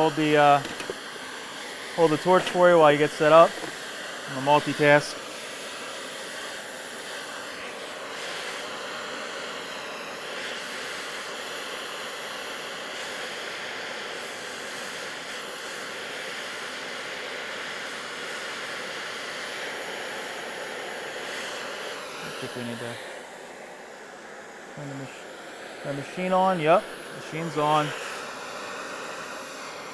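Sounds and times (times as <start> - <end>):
gas torch hissing: 0.0 - 29.9.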